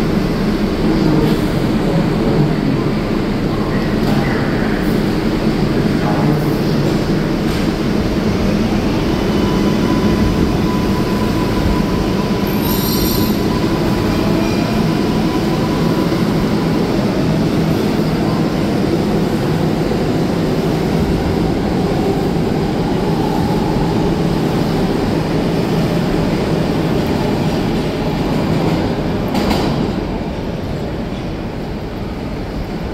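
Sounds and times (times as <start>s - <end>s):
subway train wheels rumbling: 0.0s - 32.9s.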